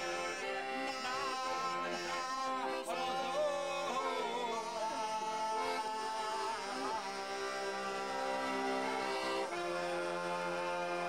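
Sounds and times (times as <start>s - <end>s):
person singing folk melody: 0.0s - 11.0s.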